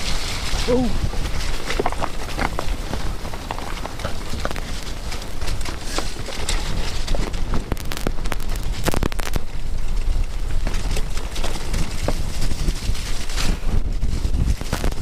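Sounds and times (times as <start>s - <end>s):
mountain bike rattling and knocking: 0.0s - 15.0s
tyres running through mud and stones: 0.0s - 15.0s
wind rumbling on microphone: 0.0s - 15.0s.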